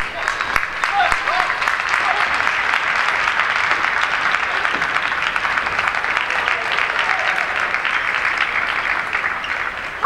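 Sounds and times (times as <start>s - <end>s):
spectators applauding: 0.0s - 10.0s.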